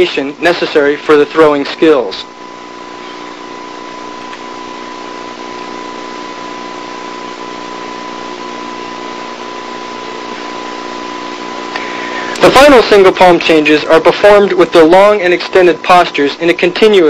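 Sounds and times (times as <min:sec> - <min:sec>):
steady tape hiss: 0:00.0 - 0:17.0.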